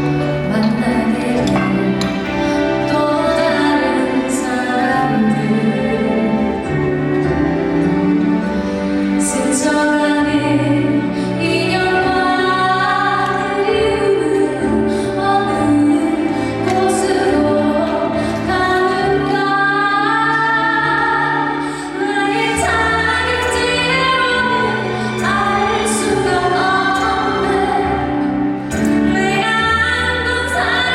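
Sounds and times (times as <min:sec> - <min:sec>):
instrumental accompaniment: 0:00.0 - 0:30.9
woman singing: 0:00.0 - 0:30.9.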